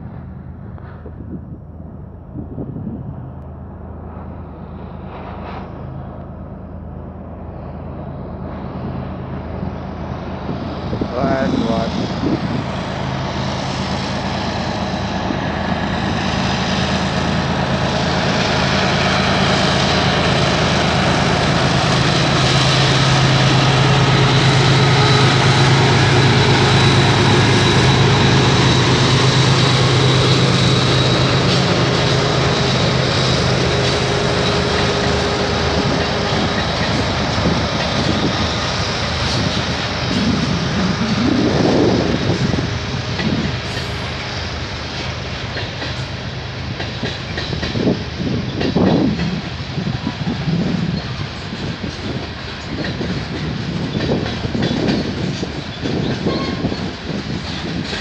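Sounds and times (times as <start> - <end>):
diesel locomotive engine drone: 0.0 - 58.0
freight cars rolling on rails: 0.0 - 58.0.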